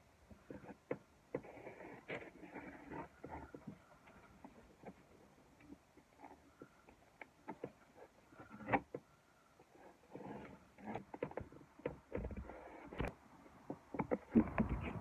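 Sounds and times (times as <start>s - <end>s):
floor plank clicks and scrapes: 0.3s - 9.0s, 9.9s - 15.0s.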